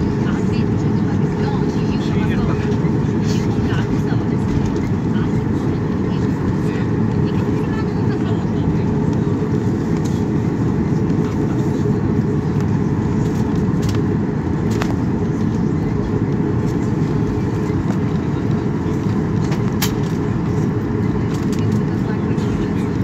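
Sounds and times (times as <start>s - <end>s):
airliner cabin low rumble: 0.0s - 23.0s.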